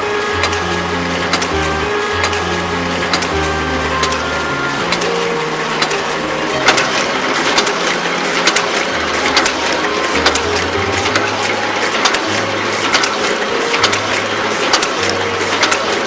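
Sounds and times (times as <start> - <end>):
book sewing machine clattering: 0.0 - 16.0.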